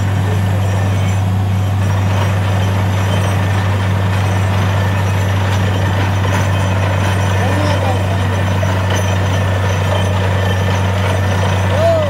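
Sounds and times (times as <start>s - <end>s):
drilling rig engine drone: 0.0s - 12.0s.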